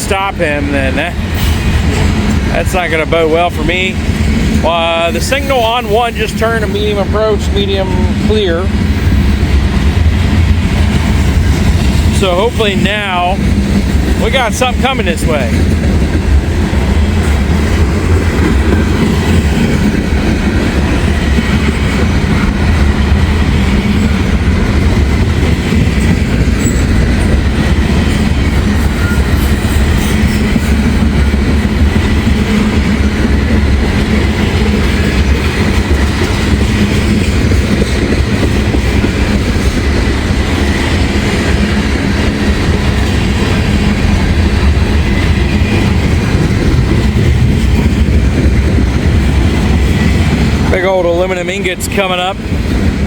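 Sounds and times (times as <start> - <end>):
train wheels rumbling on rail: 0.0 - 53.0
wheels clacking over rail joints: 0.0 - 53.0.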